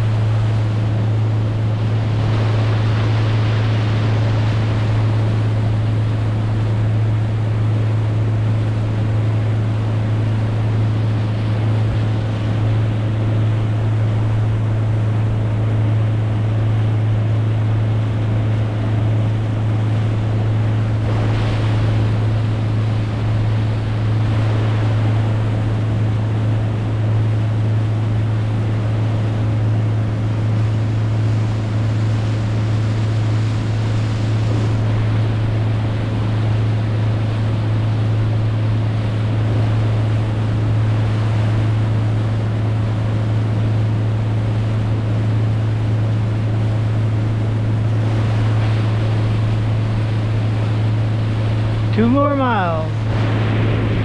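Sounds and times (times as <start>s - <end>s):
boat motor running: 0.0s - 54.0s
rushing water: 0.0s - 54.0s
wind on microphone: 0.0s - 54.0s.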